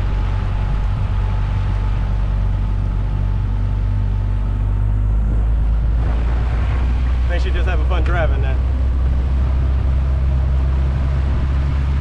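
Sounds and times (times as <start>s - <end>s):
outboard motor droning: 0.0s - 12.0s
water and hull noise: 0.0s - 12.0s.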